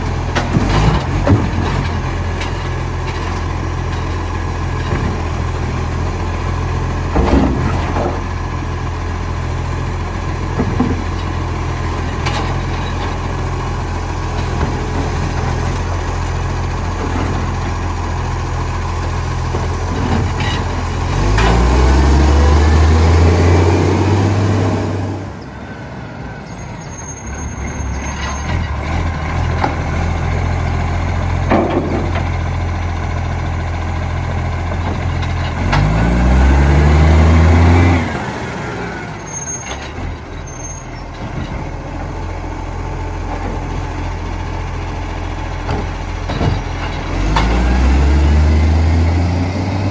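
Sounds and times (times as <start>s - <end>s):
garbage truck diesel engine: 0.0s - 49.9s.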